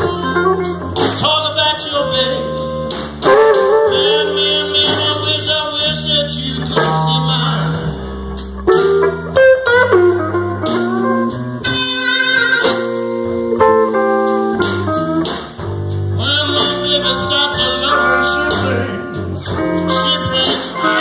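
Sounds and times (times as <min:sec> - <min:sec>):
drum kit: 0:00.0 - 0:21.0
electric bass: 0:00.0 - 0:21.0
electric guitar lead: 0:00.0 - 0:21.0.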